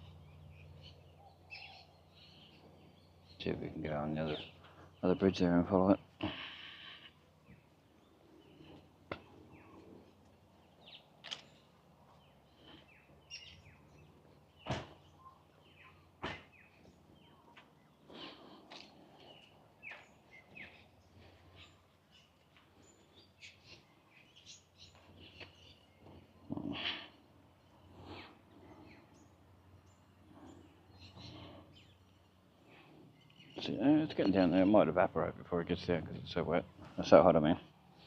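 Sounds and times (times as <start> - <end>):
birds chirping and calling: 0.0 - 38.0.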